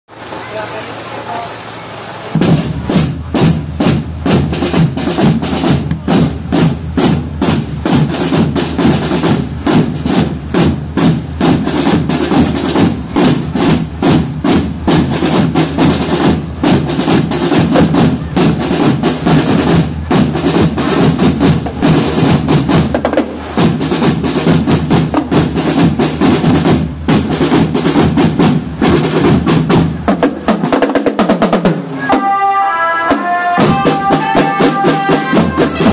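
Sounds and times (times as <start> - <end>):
tenor drums: 2.2 - 35.9
snare drums: 2.3 - 35.9
bass drum: 2.4 - 32.2, 33.1 - 35.9.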